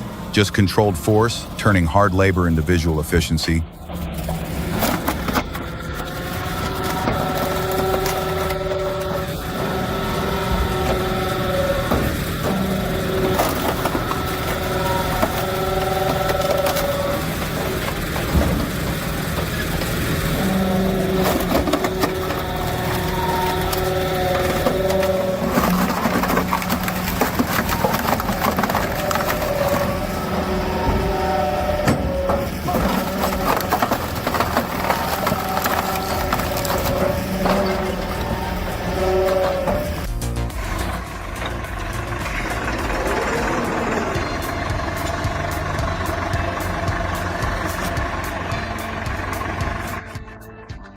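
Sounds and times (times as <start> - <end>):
wood cracking and crunching: 0.0 - 50.1
heavy machinery engine: 0.0 - 50.9.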